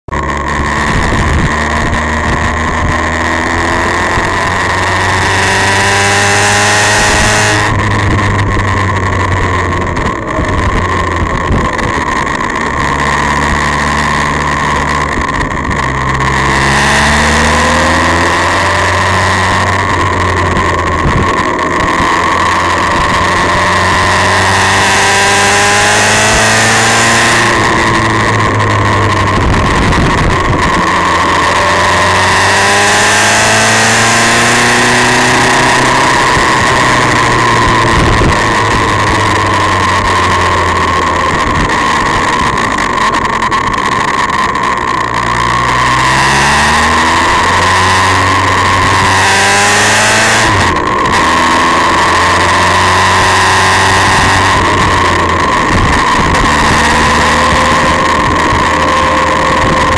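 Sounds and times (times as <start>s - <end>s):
motorcycle engine accelerating: 0.0s - 59.9s
wind rush on microphone: 0.1s - 59.9s.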